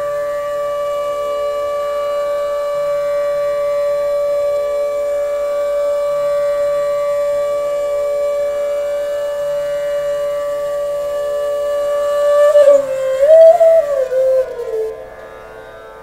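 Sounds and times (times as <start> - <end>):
bamboo flute long note: 0.0 - 16.0.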